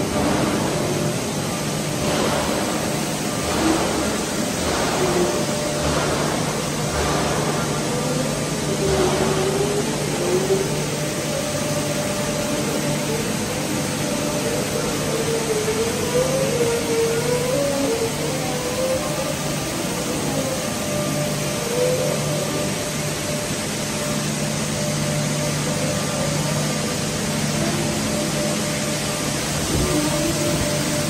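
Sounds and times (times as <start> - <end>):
machine hum and whine: 0.0 - 31.0.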